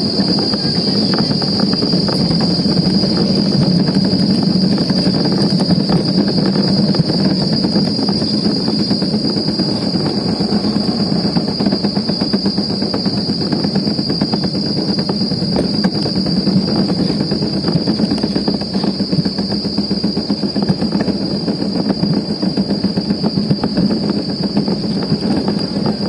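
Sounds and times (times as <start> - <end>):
cart wheels rumbling on concrete: 0.0 - 26.0.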